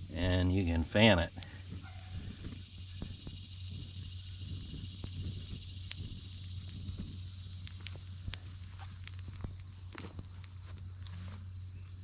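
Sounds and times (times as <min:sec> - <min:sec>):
high-pitched insect chorus: 0:00.0 - 0:12.0
campfire crackling pops: 0:00.7 - 0:12.0.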